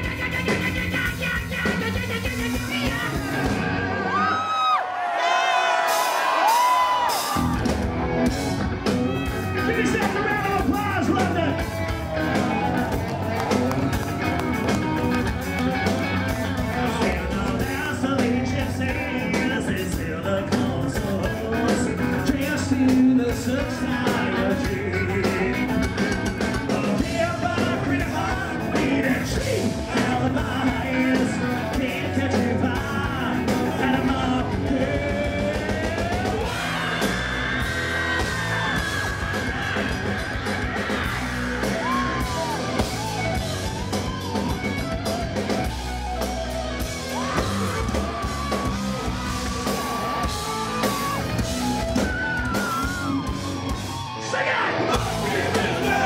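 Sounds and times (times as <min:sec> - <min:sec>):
singer singing and yelling: 0:00.0 - 0:07.7, 0:08.7 - 0:56.0
hard rock band playing: 0:00.0 - 0:56.0.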